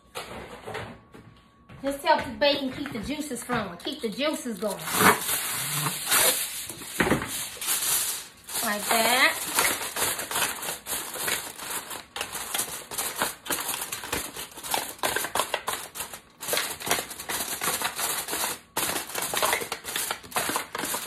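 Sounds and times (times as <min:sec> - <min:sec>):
aluminum foil crinkling: 0:03.3 - 0:21.0.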